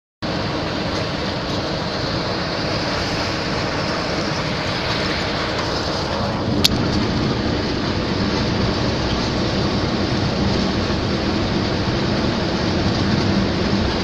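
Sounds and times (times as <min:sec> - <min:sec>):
vehicle engine and road noise: 0:00.2 - 0:14.0.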